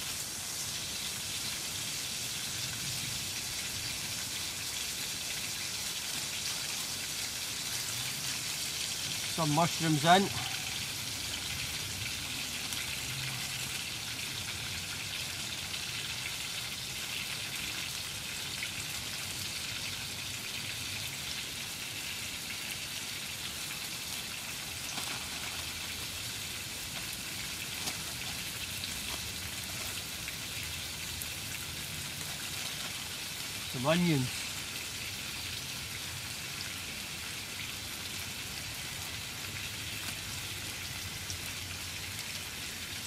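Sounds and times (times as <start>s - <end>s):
food sizzling in a frying pan: 0.0s - 43.0s.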